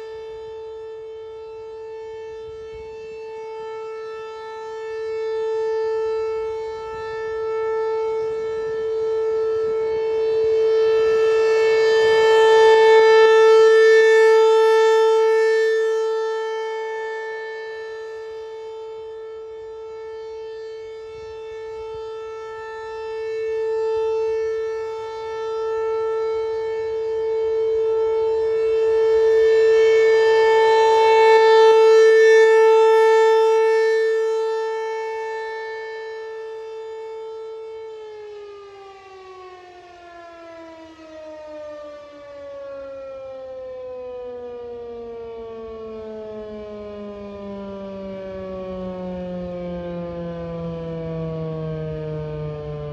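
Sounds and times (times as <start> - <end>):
outdoor warning siren: 0.0 - 52.9.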